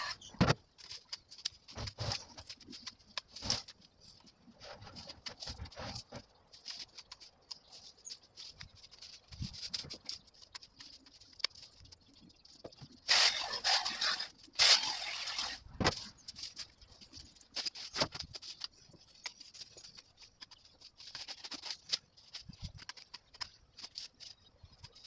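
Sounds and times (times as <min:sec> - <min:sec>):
hedge branches rustling: 0:00.0 - 0:25.0
twigs cracking and snapping: 0:00.0 - 0:25.0.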